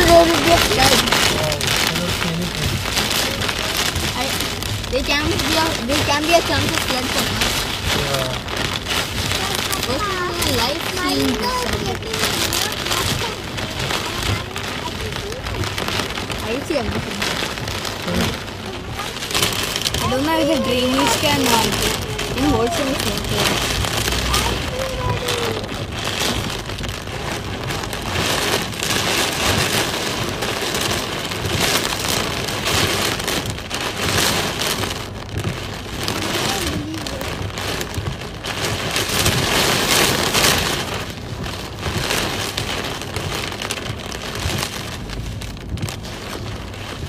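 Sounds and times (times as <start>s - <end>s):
heavy rain on car roof: 0.0s - 47.0s.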